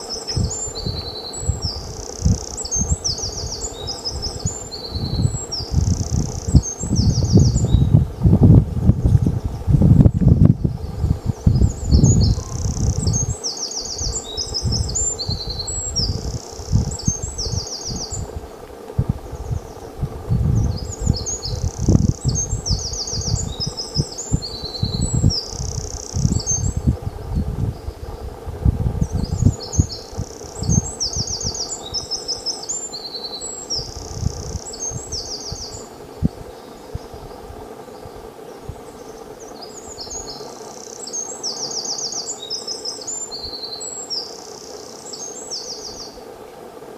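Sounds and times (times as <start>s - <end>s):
songbird trilling: 0.0s - 8.3s, 9.0s - 18.3s, 19.2s - 28.3s, 29.0s - 37.3s, 38.0s - 46.2s.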